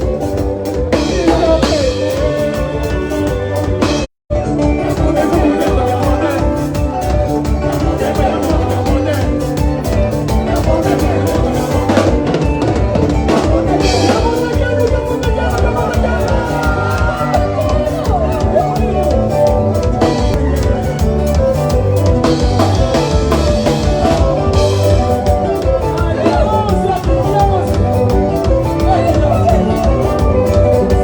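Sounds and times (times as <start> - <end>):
drum kit beat: 0.0 - 31.0
live band music: 0.0 - 31.0.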